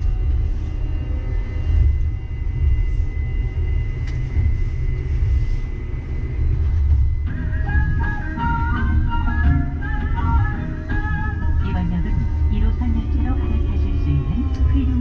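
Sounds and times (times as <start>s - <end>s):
high drive whine: 0.0s - 15.0s
train tyres rumbling: 0.0s - 15.0s.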